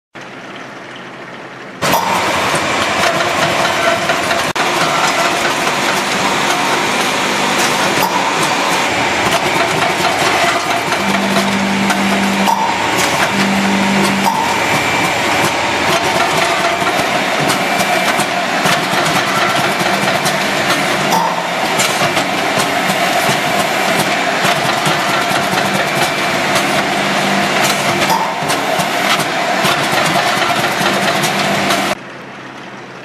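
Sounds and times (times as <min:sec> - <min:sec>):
machine clattering: 0:01.8 - 0:32.0.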